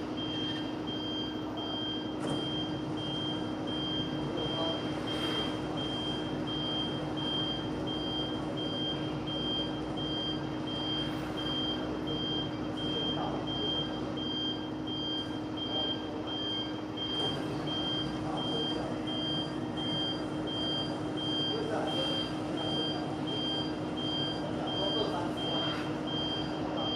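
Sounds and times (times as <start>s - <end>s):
machine hum and rumble: 0.0s - 26.9s.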